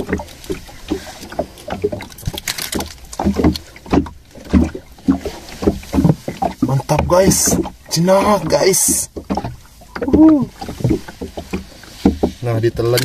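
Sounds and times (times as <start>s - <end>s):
knocks and thuds on boat: 0.0s - 13.0s.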